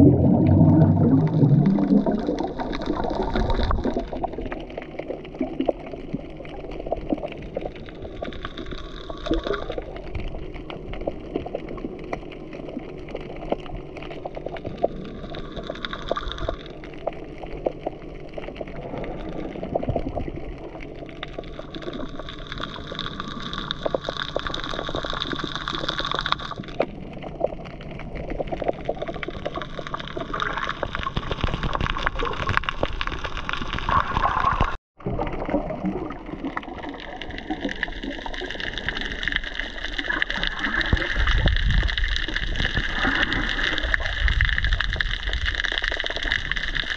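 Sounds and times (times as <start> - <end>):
underwater gurgling and sloshing: 0.0 - 46.9
fine crackling clicks: 1.4 - 34.8, 36.4 - 46.9.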